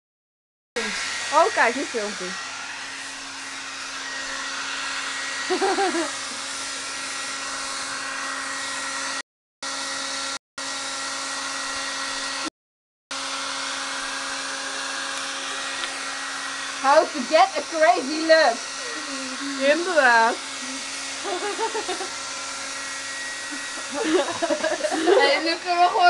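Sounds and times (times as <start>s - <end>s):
hair dryer blowing: 0.8s - 12.5s, 13.1s - 26.0s.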